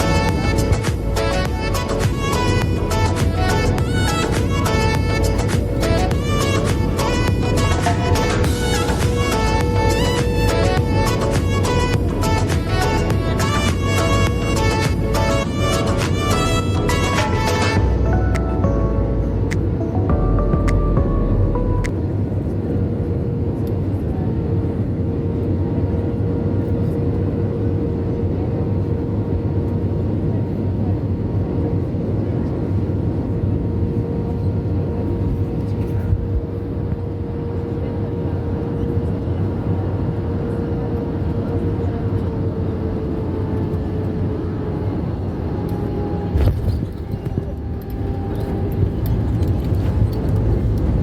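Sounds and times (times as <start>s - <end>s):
airliner cabin rumble: 0.0s - 51.0s
jet engine whine: 0.0s - 51.0s.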